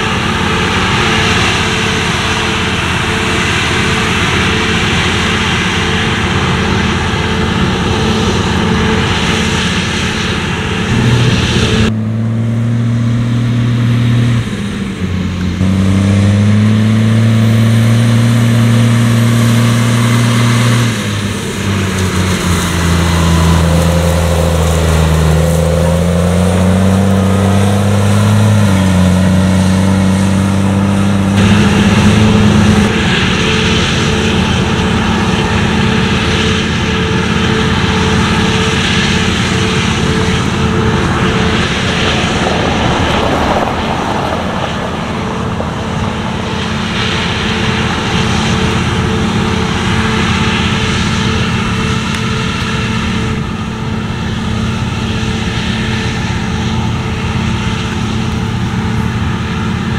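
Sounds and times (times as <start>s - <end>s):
combine harvester running: 0.0s - 59.9s
tractor engine hauling trailer: 0.0s - 59.9s.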